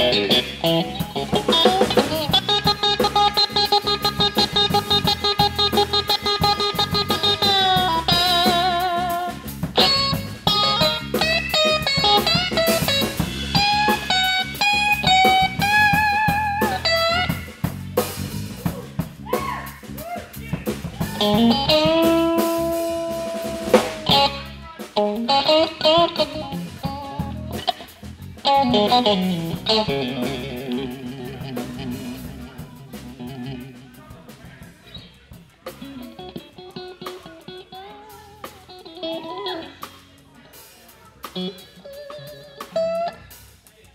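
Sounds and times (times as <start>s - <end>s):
lead guitar bending notes: 0.0s - 18.1s, 20.8s - 34.3s, 35.7s - 40.0s, 41.2s - 43.4s
blues band playing: 0.0s - 43.9s
drums: 0.0s - 43.9s.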